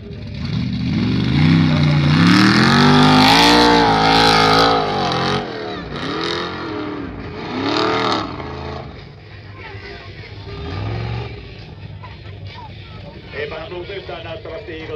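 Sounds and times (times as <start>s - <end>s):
off-road car engine revving: 0.0s - 14.9s.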